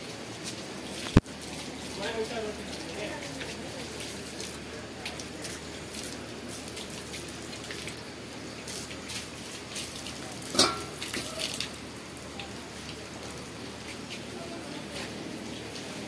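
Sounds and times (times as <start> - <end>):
water splashing and dripping: 0.0 - 16.0.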